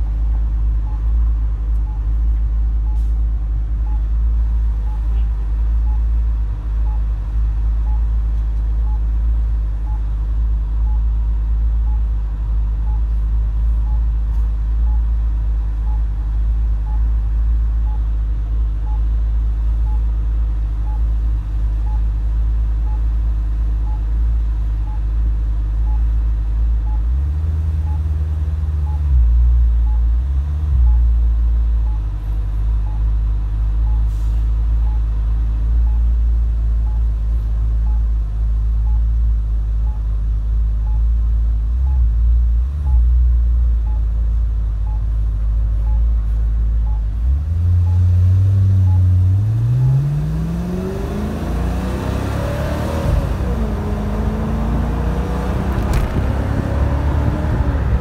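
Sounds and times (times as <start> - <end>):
turn signal ticking: 0.2 - 3.0, 3.6 - 21.2, 21.8 - 22.2, 22.8 - 24.2, 24.8 - 25.2, 25.8 - 50.3, 53.0 - 58.0.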